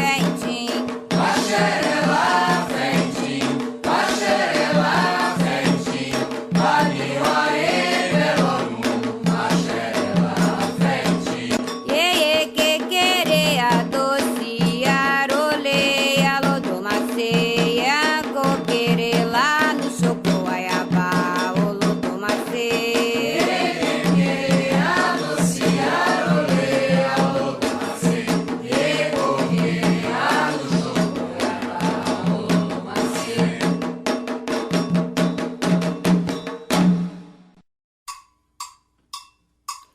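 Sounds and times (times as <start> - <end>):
voices singing a chant: 0.0 - 33.9
drums: 0.0 - 39.9.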